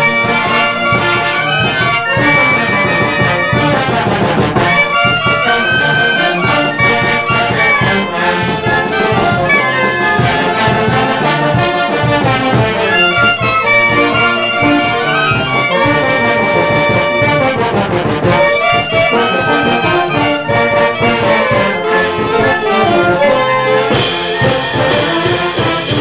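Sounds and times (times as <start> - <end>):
saxophones: 0.0 - 26.0
snare drum: 0.0 - 26.0
trombones: 0.0 - 26.0
trumpets: 0.0 - 26.0
tuba: 0.0 - 26.0.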